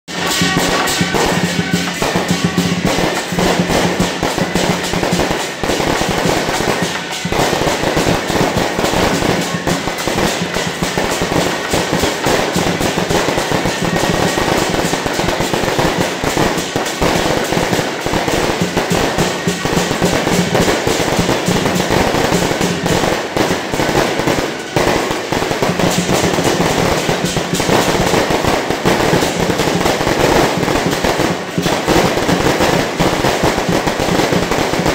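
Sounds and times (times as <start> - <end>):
music playing: 0.1 - 31.5
firecrackers banging: 0.1 - 34.9.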